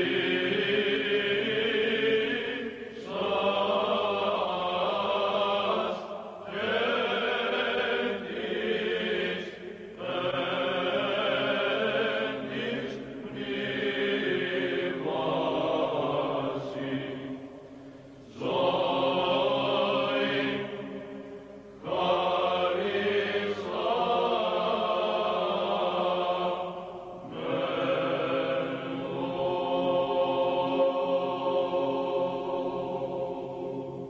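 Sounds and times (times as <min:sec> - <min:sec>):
liturgical chant: 0:00.0 - 0:34.0.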